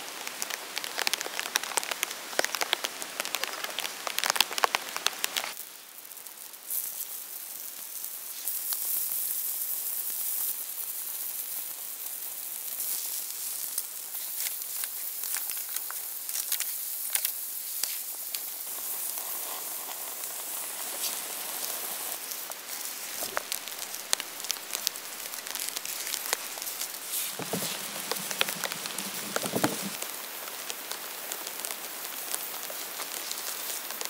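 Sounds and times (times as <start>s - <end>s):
fire hiss: 0.1s - 34.0s
campfire crackling and popping: 0.2s - 9.4s, 12.0s - 34.0s.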